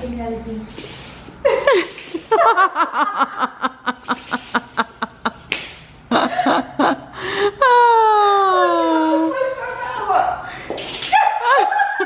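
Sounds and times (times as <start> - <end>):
woman laughing: 1.4 - 5.5, 6.1 - 12.0.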